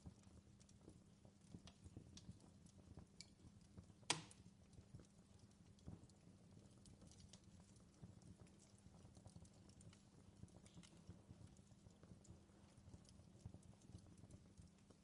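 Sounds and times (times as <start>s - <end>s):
fireplace fire crackling: 0.0s - 15.0s
sharp crack from fire: 0.0s - 15.0s.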